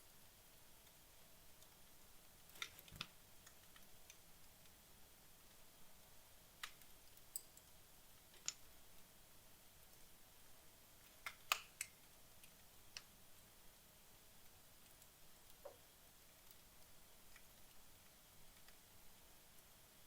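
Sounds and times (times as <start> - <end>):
faint hiss: 0.0 - 20.0
fire crackles and pops: 0.0 - 20.0.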